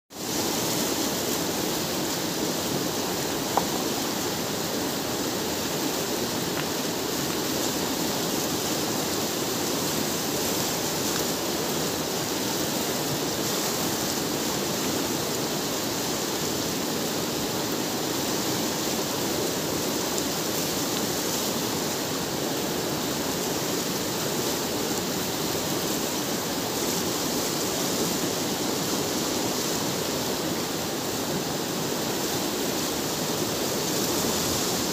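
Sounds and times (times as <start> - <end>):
river rushing past boulders: 0.1 - 34.9.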